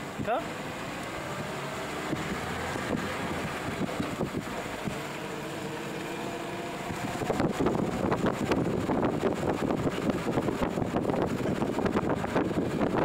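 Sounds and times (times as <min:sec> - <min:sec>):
car engine and road noise: 0:00.0 - 0:13.0
wind buffeting microphone: 0:00.0 - 0:13.0.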